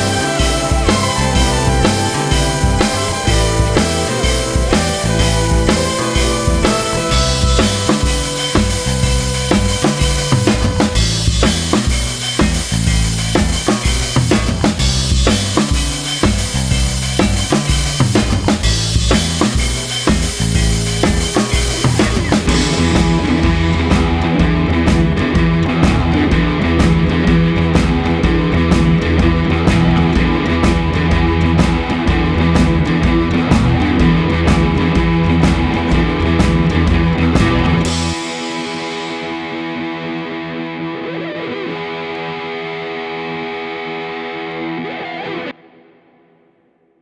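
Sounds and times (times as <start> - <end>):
music with drum beat: 0.0 - 39.6.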